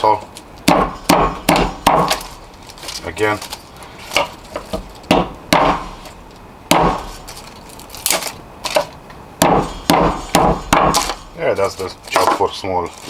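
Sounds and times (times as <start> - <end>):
axe chopping branch on wood: 0.6 - 11.3, 12.1 - 12.5.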